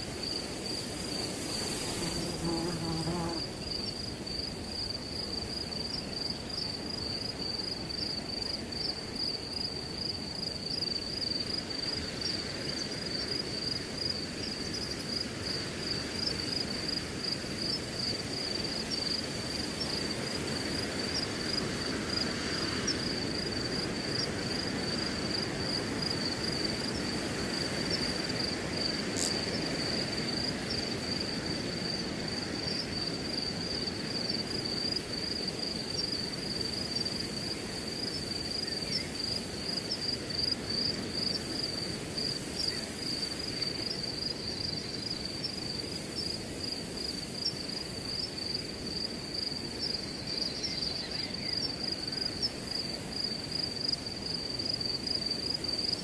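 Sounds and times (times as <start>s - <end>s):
crickets chirping: 0.0s - 56.0s
wind through grass: 0.0s - 56.0s.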